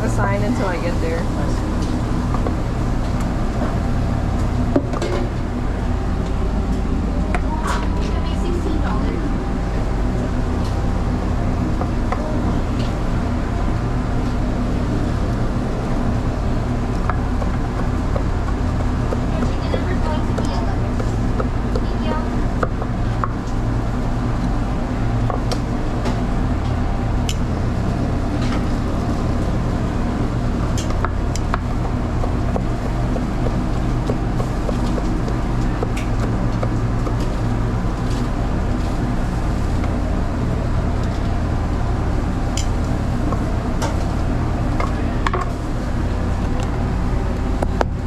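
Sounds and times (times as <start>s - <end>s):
low hum of equipment: 0.0s - 48.0s.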